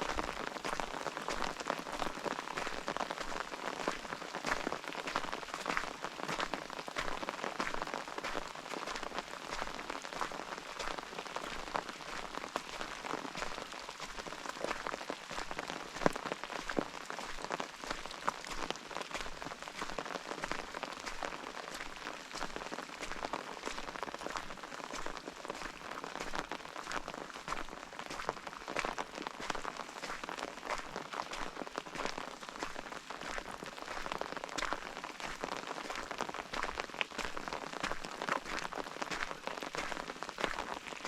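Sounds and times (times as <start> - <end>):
raindrops striking close by: 0.0 - 41.0
steady rain: 0.0 - 41.0.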